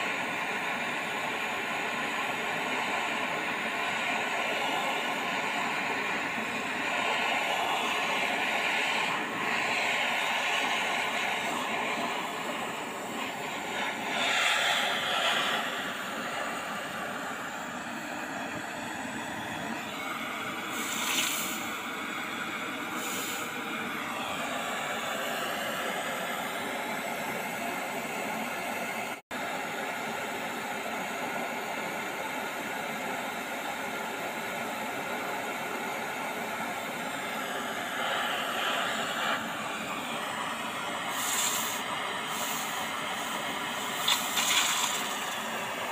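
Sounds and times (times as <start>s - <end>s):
blowtorch flame hissing: 0.0s - 45.9s.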